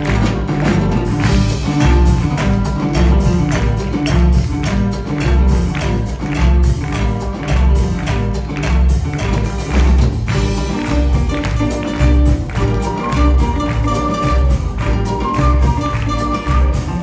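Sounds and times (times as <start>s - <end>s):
deep drum beat: 0.0s - 17.0s.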